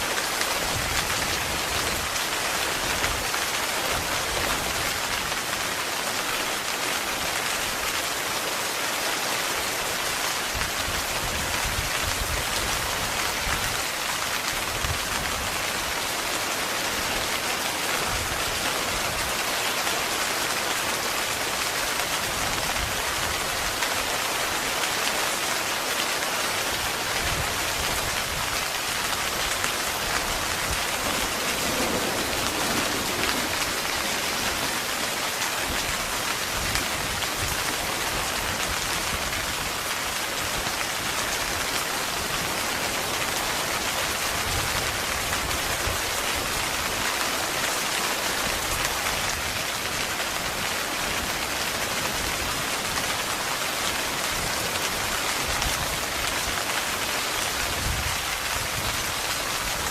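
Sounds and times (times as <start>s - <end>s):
heavy rain on a tent: 0.0s - 59.9s.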